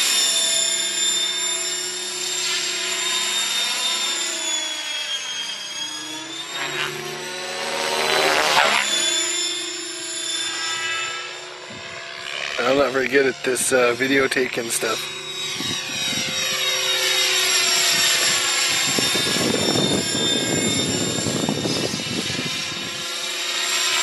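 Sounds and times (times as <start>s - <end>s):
model helicopter rotor whine: 0.0s - 24.0s.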